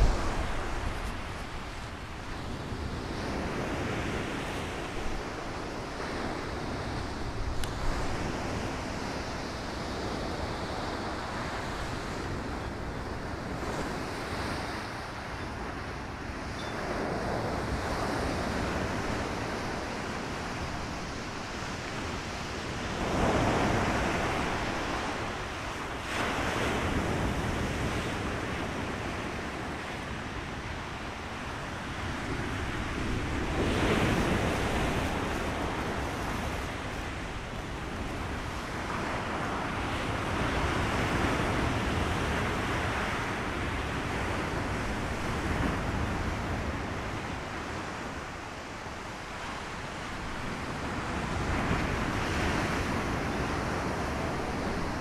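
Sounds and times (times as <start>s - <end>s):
sea waves breaking: 0.0s - 55.0s
wind buffeting microphone: 0.0s - 55.0s.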